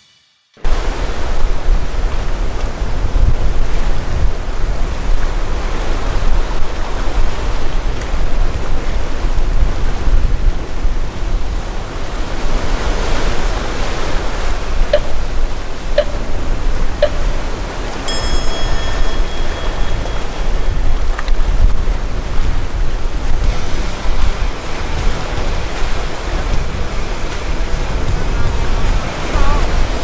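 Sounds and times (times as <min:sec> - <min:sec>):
surf washing over rocks: 0:00.6 - 0:30.0
wind rumbling on microphone: 0:00.6 - 0:30.0.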